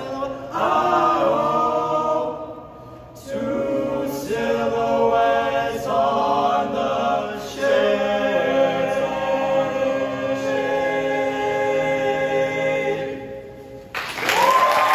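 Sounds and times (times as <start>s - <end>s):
male barbershop quartet singing: 0.0s - 13.8s.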